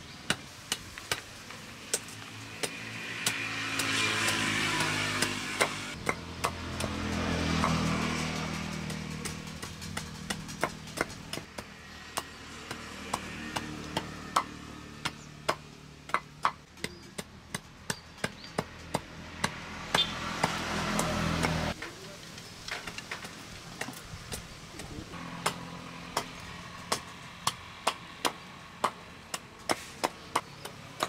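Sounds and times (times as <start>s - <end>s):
knife chopping wood: 0.2s - 21.9s, 22.8s - 31.0s.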